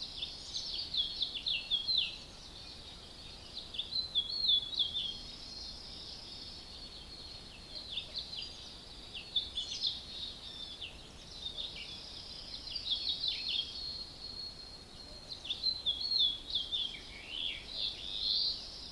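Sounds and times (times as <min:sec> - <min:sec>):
birds chirping and warbling: 0:00.0 - 0:18.9.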